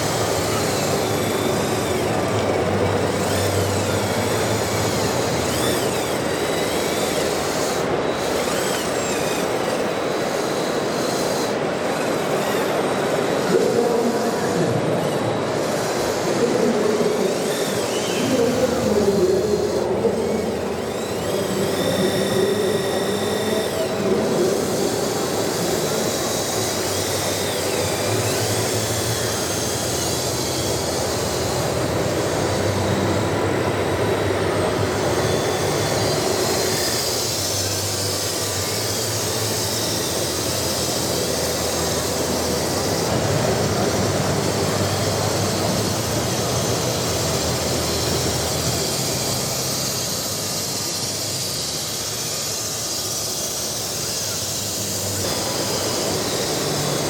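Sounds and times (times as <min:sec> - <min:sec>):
machine motors whining: 0:00.0 - 0:57.0.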